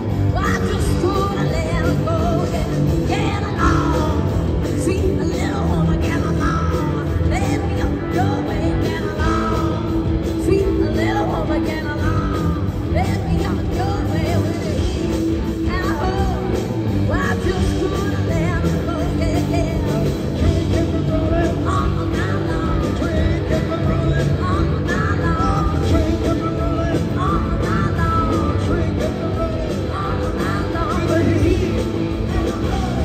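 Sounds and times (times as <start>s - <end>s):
rock band playing: 0.0s - 33.0s
woman singing: 0.0s - 33.0s.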